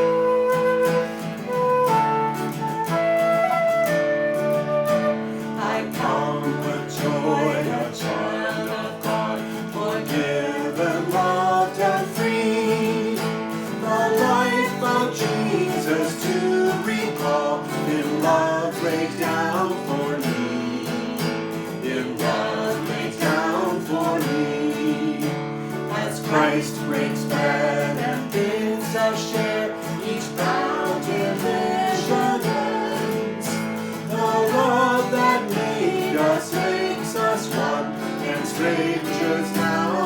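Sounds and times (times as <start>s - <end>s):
strummed acoustic guitar hymn: 0.0s - 40.0s.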